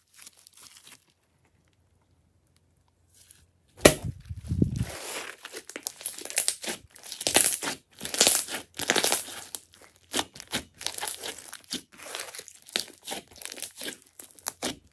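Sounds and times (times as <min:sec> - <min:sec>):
hands squeezing crackling slime: 0:00.0 - 0:01.6, 0:04.3 - 0:14.9.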